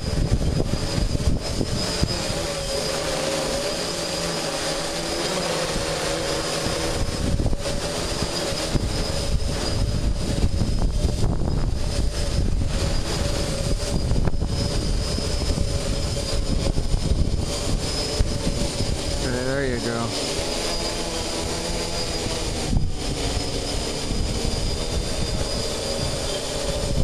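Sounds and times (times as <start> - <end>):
drone motors whining: 0.0 - 27.0
wind rumbling on microphone: 0.0 - 27.0.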